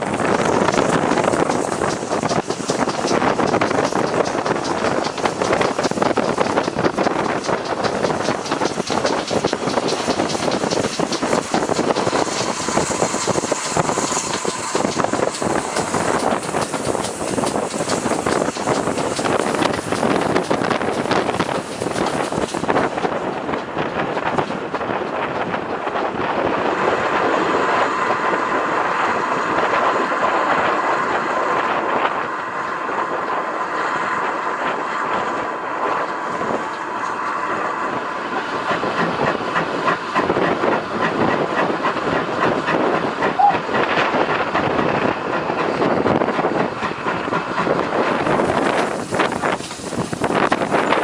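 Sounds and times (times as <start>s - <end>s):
train wheels clacking on rail joints: 0.0s - 51.0s.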